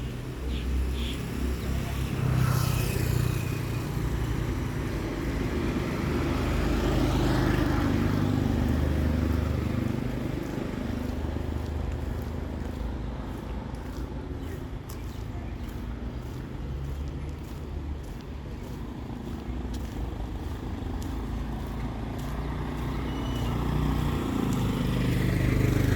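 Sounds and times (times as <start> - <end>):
motor vehicles passing: 0.0 - 25.9.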